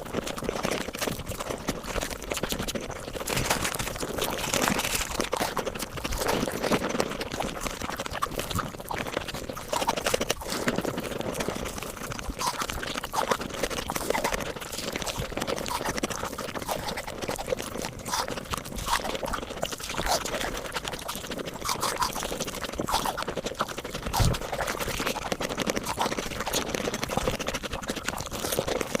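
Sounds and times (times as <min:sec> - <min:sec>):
sped-up chewing and crunching: 0:00.0 - 0:29.0.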